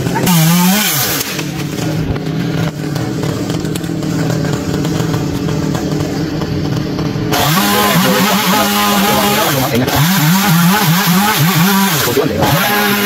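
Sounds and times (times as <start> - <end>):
chainsaw cutting a branch: 0.0 - 13.0.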